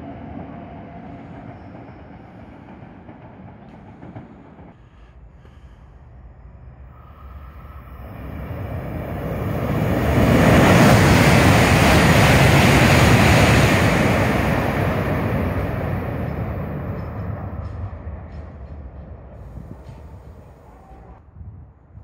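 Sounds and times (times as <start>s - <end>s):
high-speed train passing: 0.0s - 21.6s.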